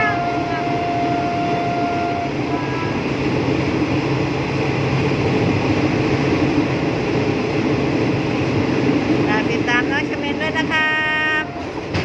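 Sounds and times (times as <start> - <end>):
moving train rumble and hiss: 0.0 - 12.0.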